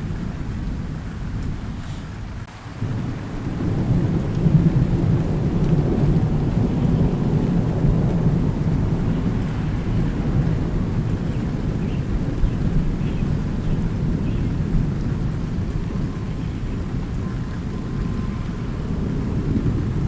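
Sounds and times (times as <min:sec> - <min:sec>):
deep rolling thunder: 0:00.0 - 0:20.0
steady rainfall: 0:00.0 - 0:20.0.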